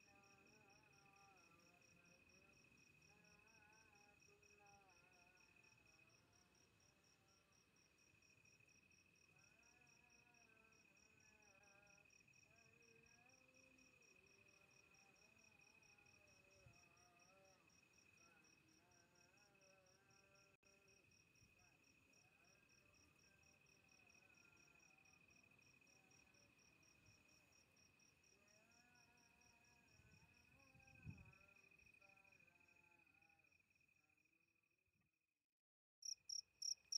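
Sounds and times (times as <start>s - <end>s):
faint crickets chirping: 0.0s - 34.7s, 36.0s - 36.9s.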